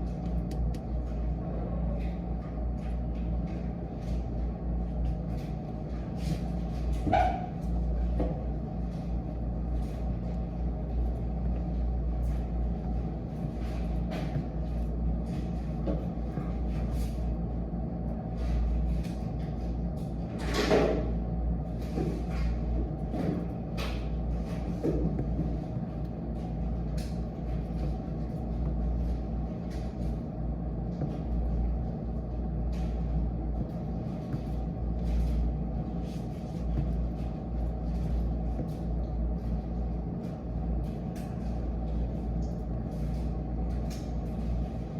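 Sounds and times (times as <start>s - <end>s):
low background rumble: 0.0s - 44.9s.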